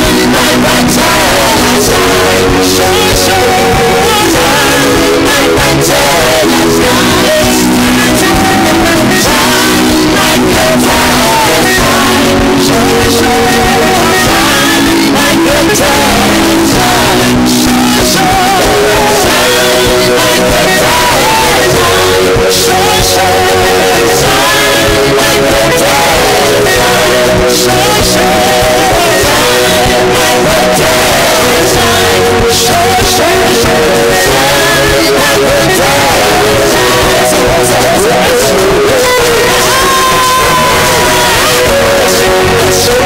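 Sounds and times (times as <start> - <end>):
gospel singers with instruments: 0.0 - 43.0.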